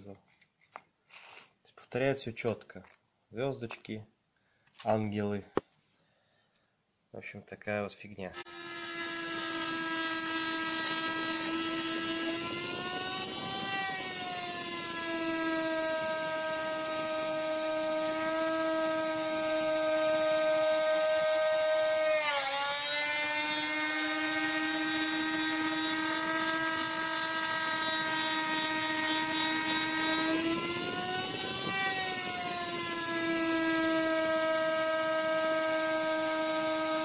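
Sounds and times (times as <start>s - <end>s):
rotary tool high whine: 0.0s - 1.6s, 8.4s - 37.0s.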